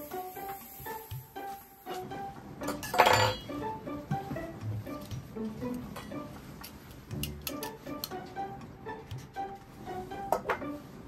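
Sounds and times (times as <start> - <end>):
plucked notes music: 0.1 - 11.0.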